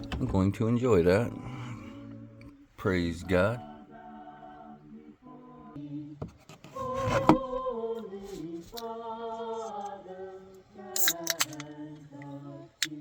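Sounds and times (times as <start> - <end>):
person singing slow melody: 0.0 - 6.2, 7.0 - 13.0.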